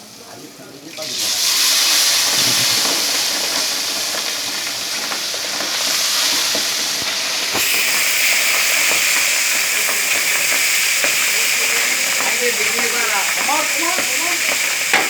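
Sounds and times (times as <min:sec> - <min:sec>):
fish sizzling in hot oil: 0:00.0 - 0:15.0
oil popping and crackling: 0:00.3 - 0:15.0.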